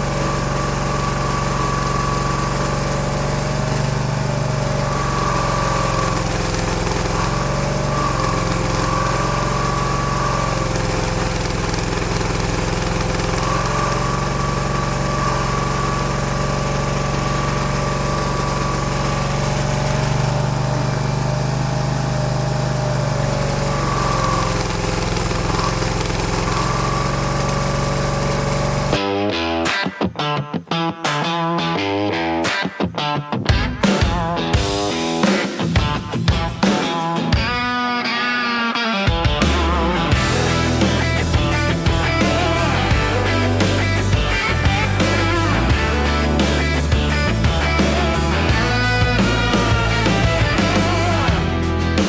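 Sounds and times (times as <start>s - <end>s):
stump grinder engine running hard: 0.0s - 29.2s, 33.6s - 52.0s.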